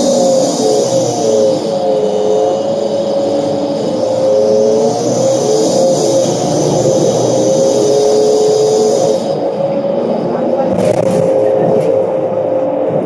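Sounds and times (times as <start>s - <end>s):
bus cabin rumble: 0.0s - 13.0s
drivetrain whine: 0.0s - 13.0s.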